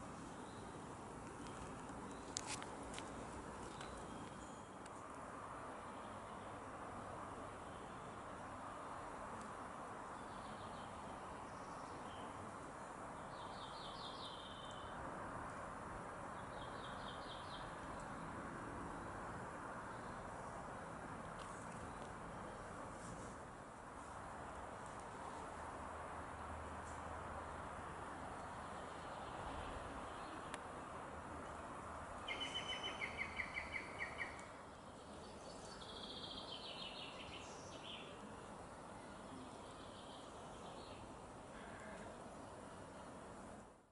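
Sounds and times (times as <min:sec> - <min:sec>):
songbird singing: 0:00.0 - 0:06.7, 0:07.4 - 0:15.0, 0:16.2 - 0:23.2, 0:28.2 - 0:43.1
outdoor background noise: 0:00.0 - 0:43.9
steady background hiss: 0:00.0 - 0:43.9.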